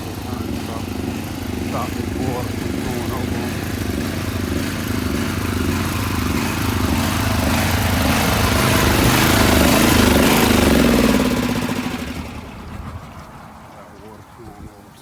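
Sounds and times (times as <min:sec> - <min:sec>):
pressure washer engine running: 0:00.0 - 0:14.4.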